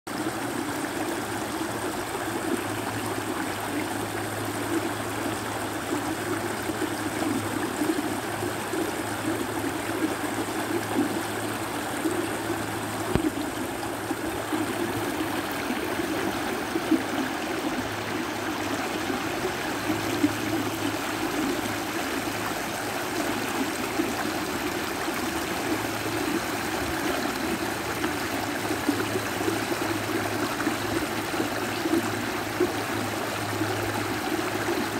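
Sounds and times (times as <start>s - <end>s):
creek running over rocks: 0.1s - 34.9s.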